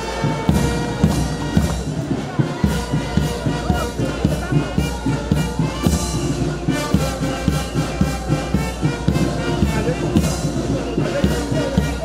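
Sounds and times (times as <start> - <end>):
brass band playing a march: 0.0 - 12.0
steady drum beat: 0.0 - 12.0.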